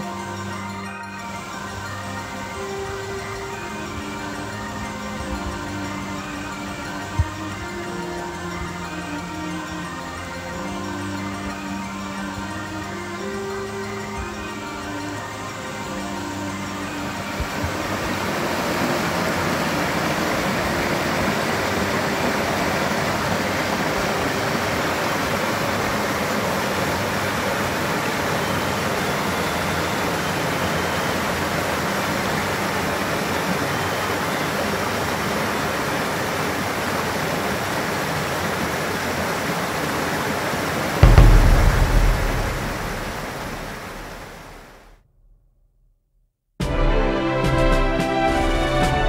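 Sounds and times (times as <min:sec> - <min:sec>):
stream water rushing: 0:00.0 - 0:44.7.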